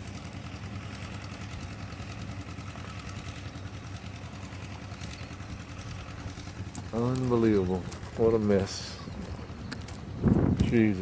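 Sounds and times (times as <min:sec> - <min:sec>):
water pump engine humming: 0:00.0 - 0:11.0.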